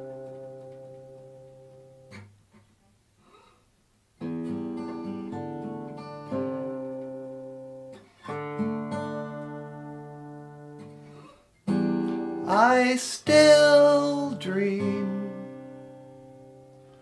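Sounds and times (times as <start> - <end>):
acoustic guitar chords strummed: 0.0 - 2.6, 4.2 - 17.0.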